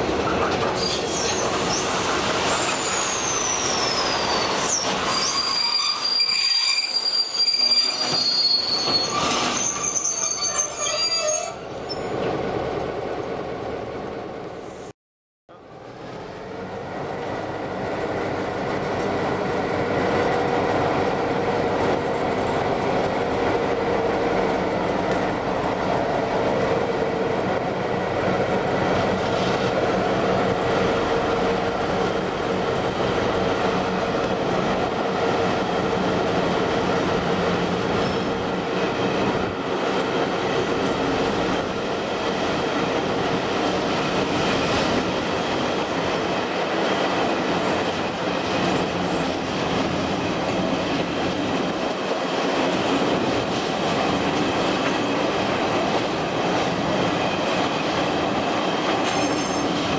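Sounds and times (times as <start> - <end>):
train wheels rumbling on rail: 0.0 - 14.9, 15.8 - 59.9.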